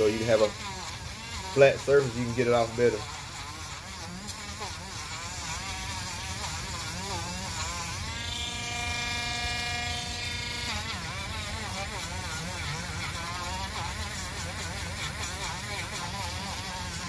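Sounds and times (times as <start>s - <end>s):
rotary tool grinding rubber: 0.0s - 17.0s.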